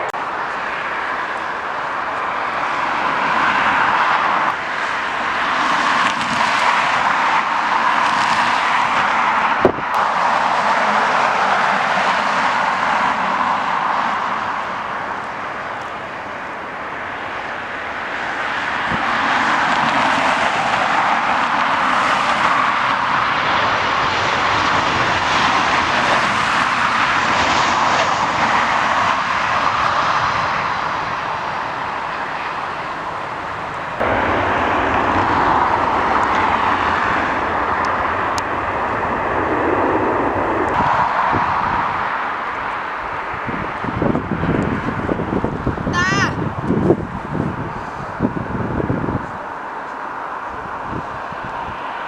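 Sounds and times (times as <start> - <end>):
jet engines rushing: 0.0 - 52.0.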